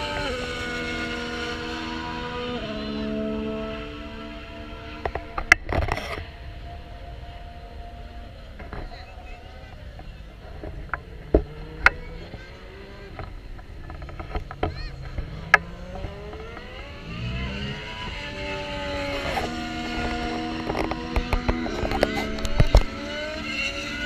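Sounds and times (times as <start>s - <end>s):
racing engines revving: 0.0s - 24.0s.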